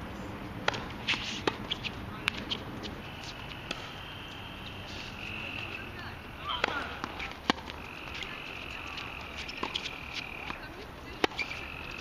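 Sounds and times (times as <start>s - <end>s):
steady high buzz: 0.0s - 12.0s
tennis ball bouncing on hard court: 0.6s - 12.0s
tennis ball hit by rackets: 0.6s - 12.0s.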